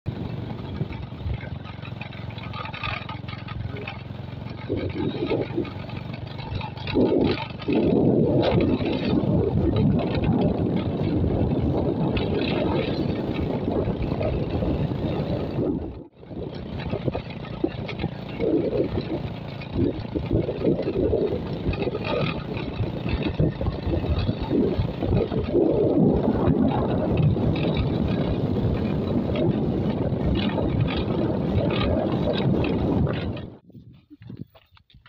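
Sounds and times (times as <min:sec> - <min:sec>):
small motorcycle engine: 0:00.1 - 0:33.6
tyres on gravel: 0:00.2 - 0:35.0.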